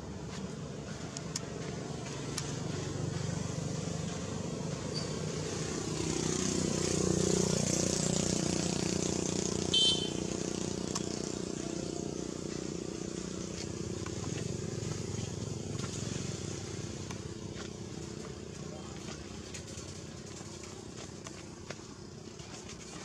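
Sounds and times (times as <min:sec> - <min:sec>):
vehicle engine passing: 0:00.0 - 0:23.0.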